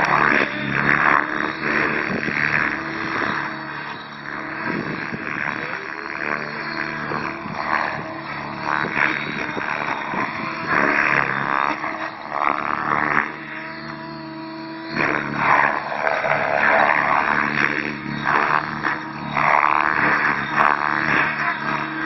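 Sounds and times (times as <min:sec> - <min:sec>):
helicopter rotor whine: 0:00.0 - 0:22.0
rotor blades rushing surges: 0:00.0 - 0:22.0.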